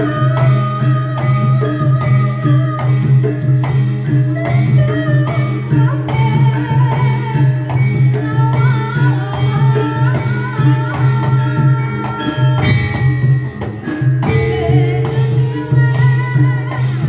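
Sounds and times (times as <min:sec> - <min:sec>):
drums keeping steady rhythm: 0:00.0 - 0:17.0.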